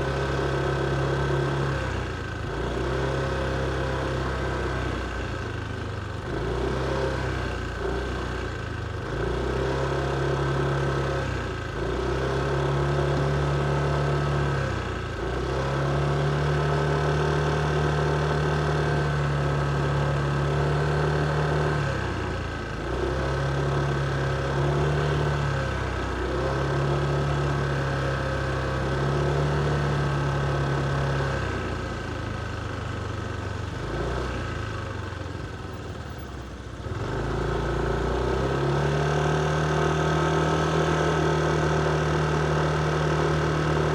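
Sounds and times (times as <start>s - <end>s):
motorcycle engine at low revs: 0.0s - 43.9s.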